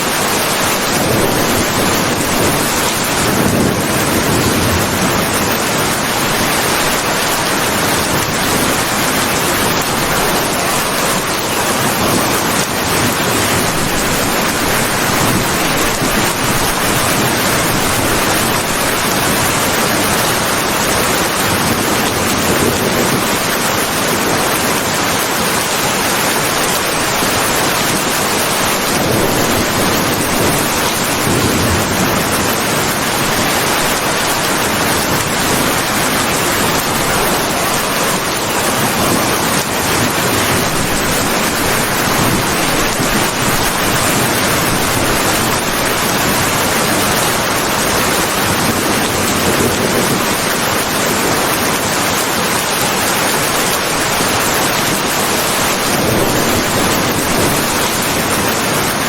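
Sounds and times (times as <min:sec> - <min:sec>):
rain pouring: 0:00.0 - 0:59.0.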